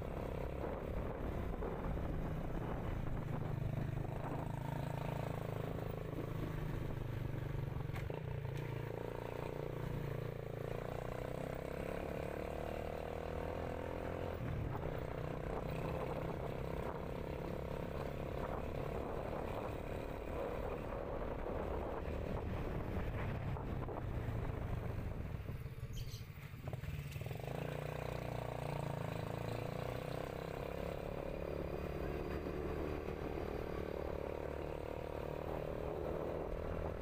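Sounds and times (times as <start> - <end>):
small motorcycle engine running: 0.1 - 37.0.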